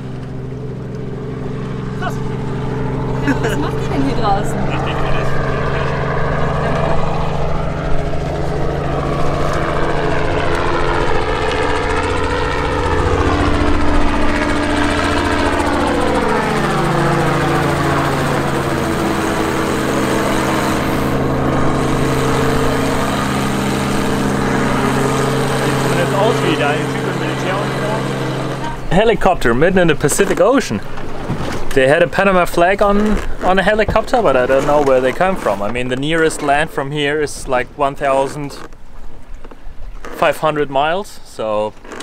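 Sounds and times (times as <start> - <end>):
helicopter rotor and engine: 0.0 - 42.0.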